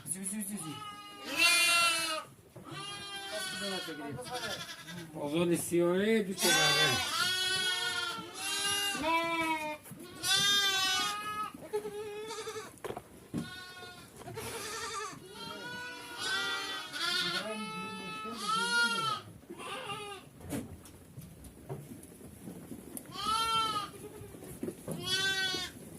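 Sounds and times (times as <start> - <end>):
sheep and goats bleating: 0.0 - 5.3, 6.3 - 12.8, 13.4 - 20.3, 23.1 - 25.8.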